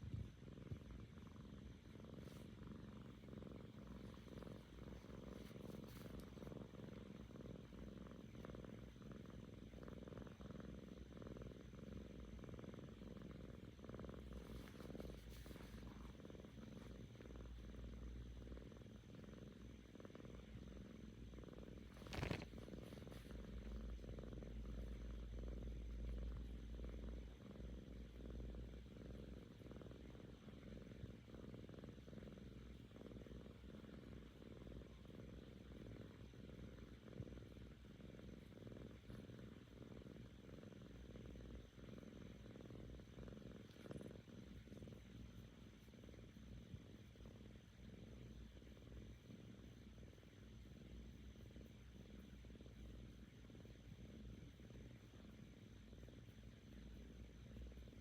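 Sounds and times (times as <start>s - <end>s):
kitten purring: 0.0s - 58.0s.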